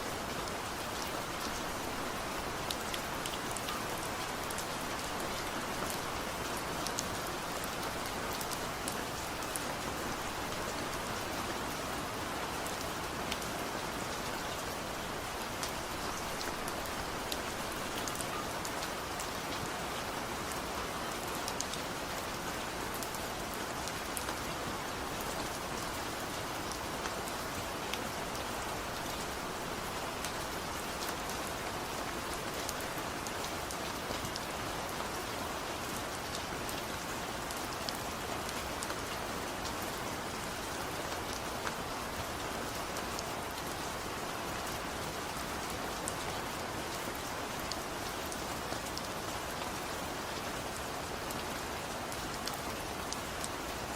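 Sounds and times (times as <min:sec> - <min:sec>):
light rain falling: 0:00.0 - 0:53.9.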